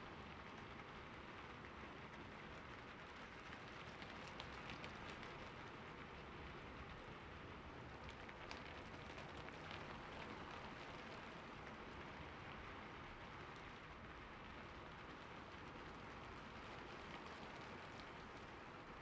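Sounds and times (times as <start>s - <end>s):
rain on a roof: 0.0s - 19.0s.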